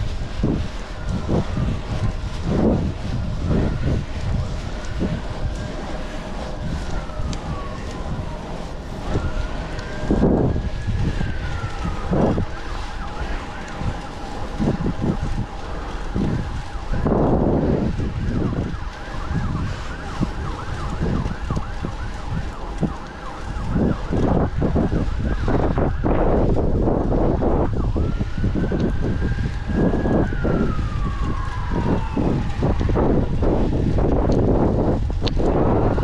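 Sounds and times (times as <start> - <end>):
emergency vehicle siren: 0.0 - 36.0
wind buffeting microphone: 0.0 - 36.0.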